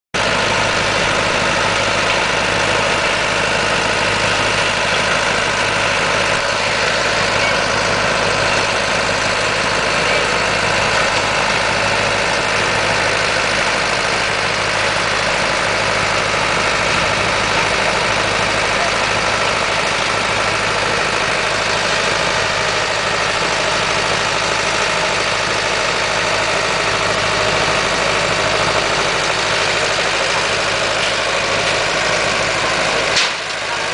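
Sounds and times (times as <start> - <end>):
harvester engine running: 0.2 - 33.9.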